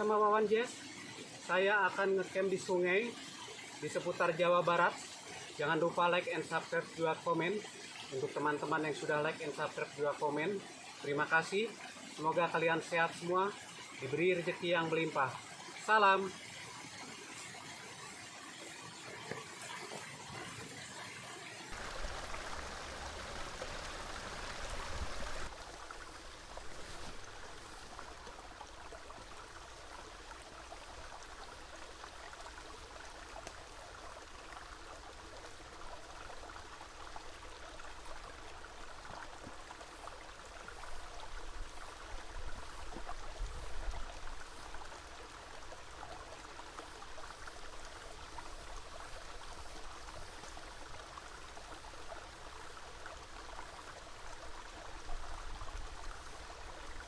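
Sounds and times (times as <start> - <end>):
river water rushing: 6.4 - 57.0.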